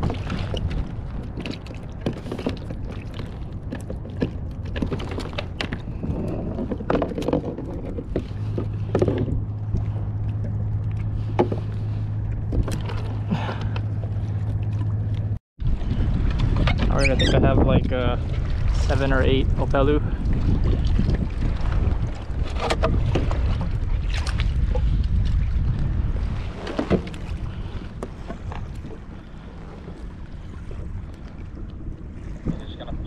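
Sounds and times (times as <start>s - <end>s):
low hum: 0.0s - 33.0s
water sounds: 0.0s - 33.0s
wind rumble: 0.0s - 33.0s.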